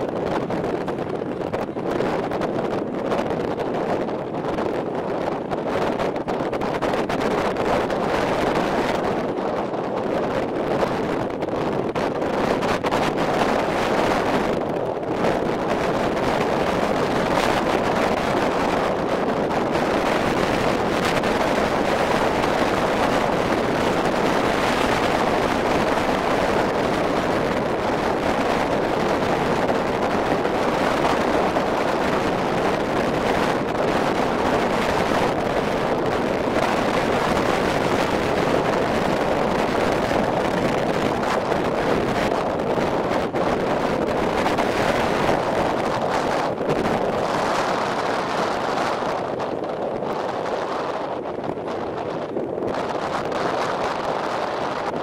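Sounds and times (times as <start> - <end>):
sea water rushing along hull: 0.0 - 55.0
wind buffeting microphone: 0.0 - 55.0.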